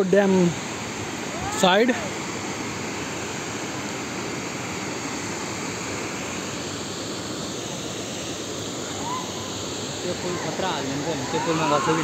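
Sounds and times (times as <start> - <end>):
water rushing over a dam: 0.0 - 12.0.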